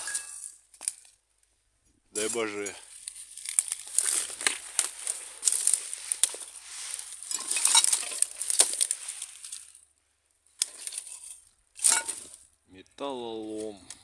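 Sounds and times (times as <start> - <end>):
dry grass and twigs rustling: 0.0 - 14.0.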